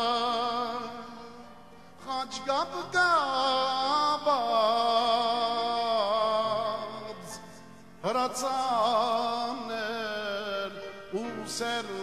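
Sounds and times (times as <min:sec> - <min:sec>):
man singing: 0:00.0 - 0:12.0
musical accompaniment: 0:00.0 - 0:12.0.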